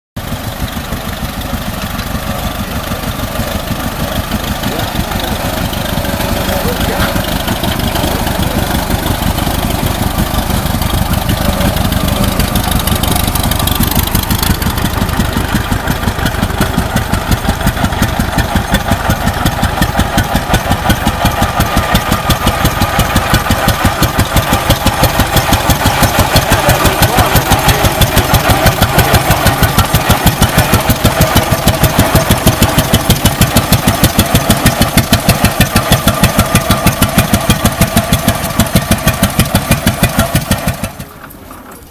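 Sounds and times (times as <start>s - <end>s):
flywheel engine firing in slow beats: 0.2s - 41.9s
tractor engine running: 0.2s - 41.9s.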